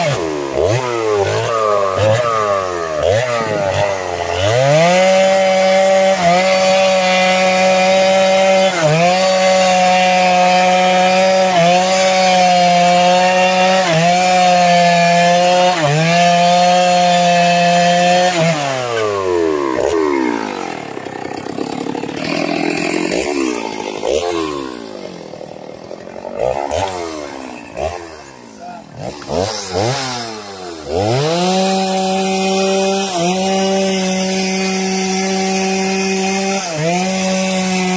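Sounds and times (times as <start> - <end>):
chainsaw revving: 0.0 - 37.9.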